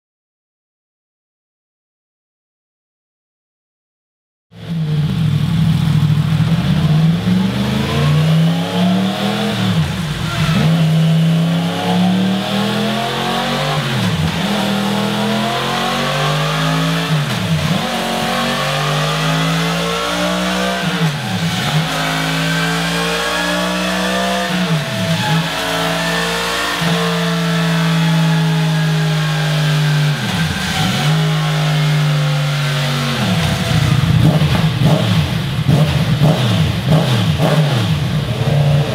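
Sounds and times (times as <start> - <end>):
motorcycle engine revving: 4.6 - 38.9.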